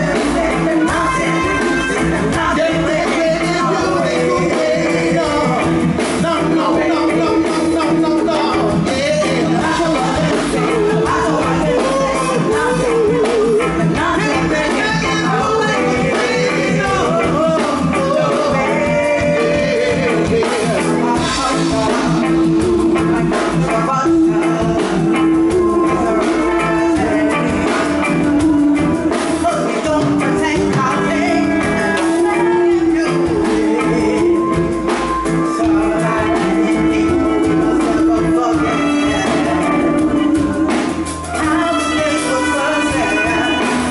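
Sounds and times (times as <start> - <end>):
reggae backing band: 0.0 - 43.9
vocal group singing: 0.0 - 43.9.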